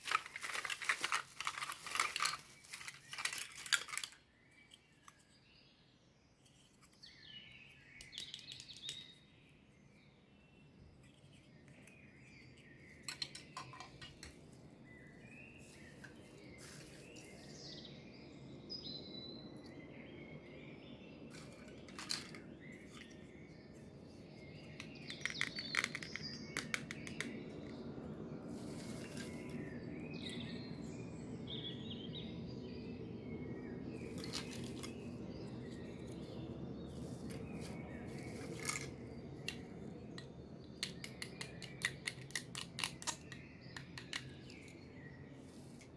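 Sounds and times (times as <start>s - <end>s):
low background noise: 0.0s - 45.9s
birds chirping: 6.9s - 45.9s.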